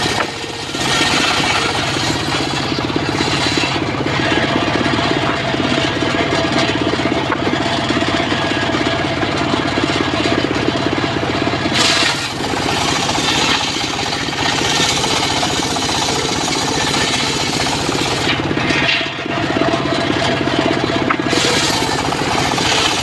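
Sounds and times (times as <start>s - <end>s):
saw blade cutting log: 0.0s - 10.5s, 11.6s - 23.0s
sawmill engine chugging: 0.0s - 23.0s.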